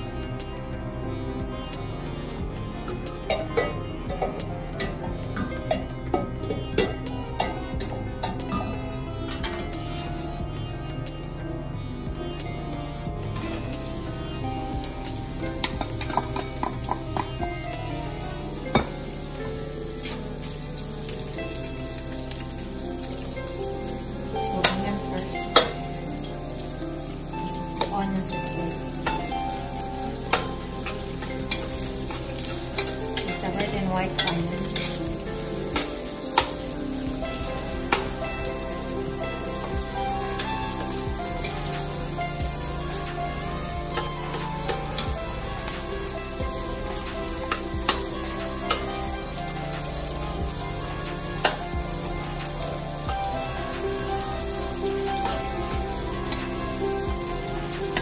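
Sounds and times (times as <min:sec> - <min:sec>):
onion sizzling in hot oil: 0:00.0 - 0:58.0.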